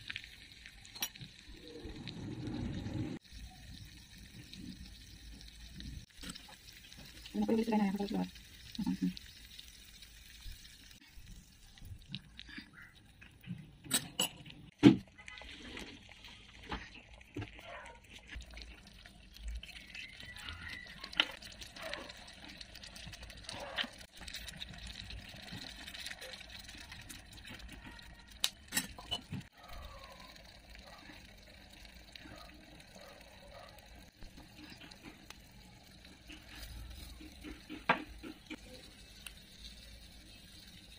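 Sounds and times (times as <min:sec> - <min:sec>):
water pouring: 0:00.0 - 0:40.9.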